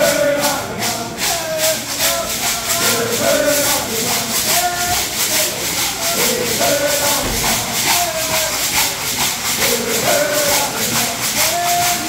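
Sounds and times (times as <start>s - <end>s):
shell shakers rattling: 0.4s - 12.0s.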